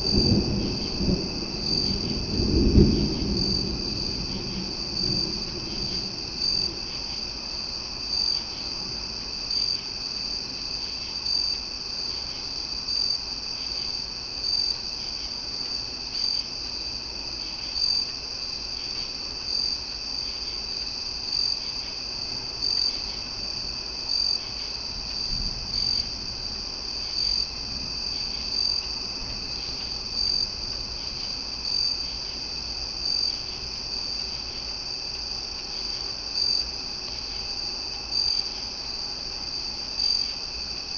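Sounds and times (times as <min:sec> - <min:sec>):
crickets trilling: 0:00.0 - 0:40.9
loud cricket chirp: 0:00.0 - 0:40.9.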